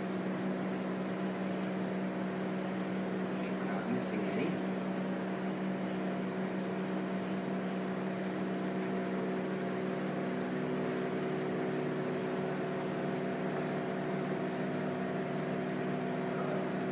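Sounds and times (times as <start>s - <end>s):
steady mechanical hum: 0.0s - 16.9s.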